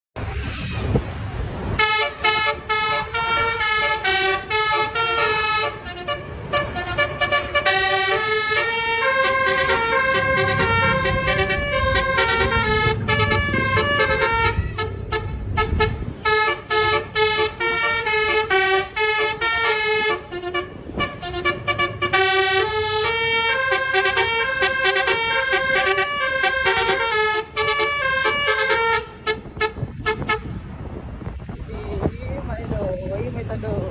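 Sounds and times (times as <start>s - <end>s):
bus horn playing a melody: 1.7s - 31.0s.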